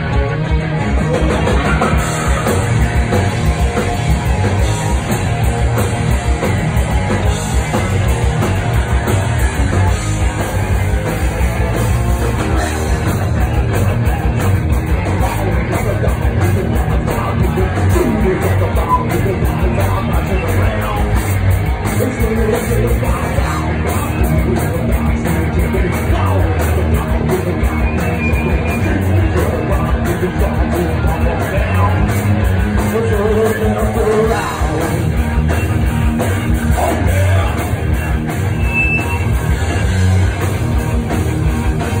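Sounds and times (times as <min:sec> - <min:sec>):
drum kit: 0:00.0 - 0:42.0
electric bass: 0:00.0 - 0:42.0
electric guitars: 0:00.0 - 0:42.0.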